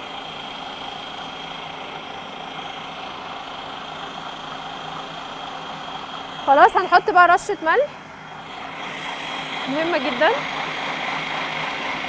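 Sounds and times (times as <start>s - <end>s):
food processor motor running: 0.0s - 12.0s.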